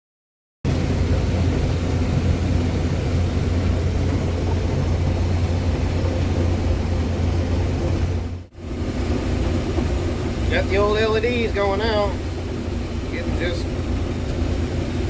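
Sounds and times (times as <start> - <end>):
combine harvester engine hum: 0.7 - 15.0
machinery rumble: 0.7 - 15.0.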